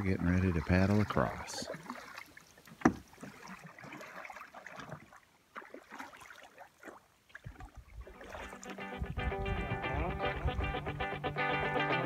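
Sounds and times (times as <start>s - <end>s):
water lapping on shore: 0.0s - 10.6s.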